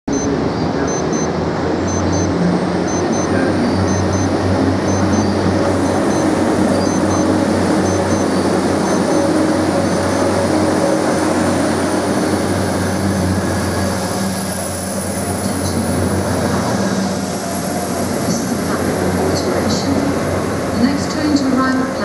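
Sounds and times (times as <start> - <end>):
low diesel engine hum: 0.1 - 22.0
train rumbling past: 0.1 - 22.0.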